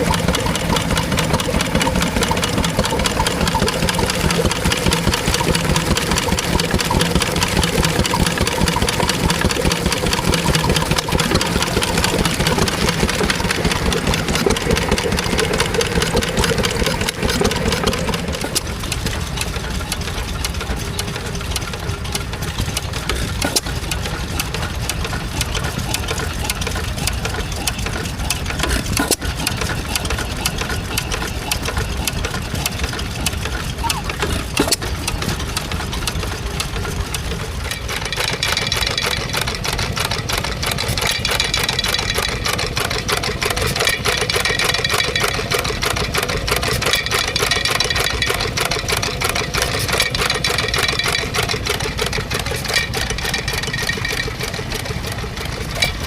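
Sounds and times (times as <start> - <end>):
engine running with fast beat: 0.0 - 56.0.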